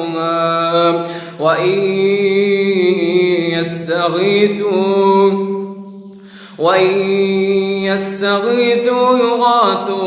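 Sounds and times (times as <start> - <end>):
young man reciting melodically: 0.0 - 10.0.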